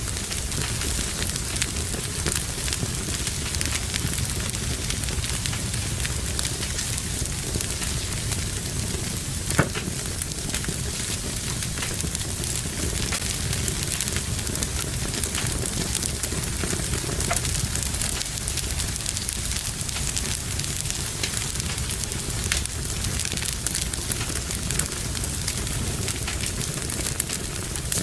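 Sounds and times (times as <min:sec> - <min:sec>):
fire crackling: 0:00.0 - 0:28.0
low rumble of flame: 0:00.0 - 0:28.0
sharp pop of fire: 0:05.1 - 0:28.0.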